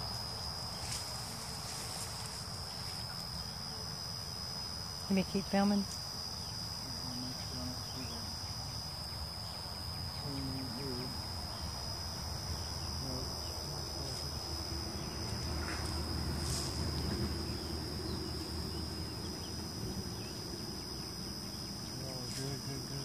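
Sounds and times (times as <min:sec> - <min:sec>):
bees buzzing: 0:00.0 - 0:23.0
high-pitched insect trill: 0:00.0 - 0:23.0.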